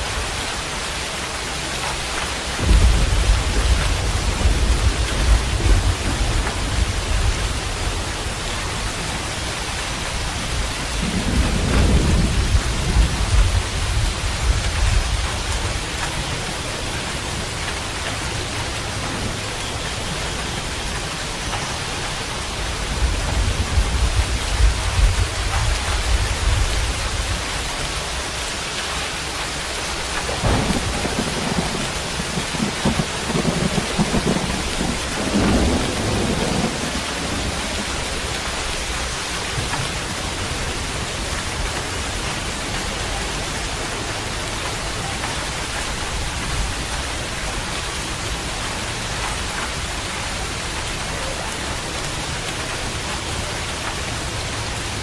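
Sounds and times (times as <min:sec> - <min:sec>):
steady rain falling: 0:00.0 - 0:55.0
thunder rumbling: 0:01.6 - 0:28.3, 0:29.2 - 0:53.0.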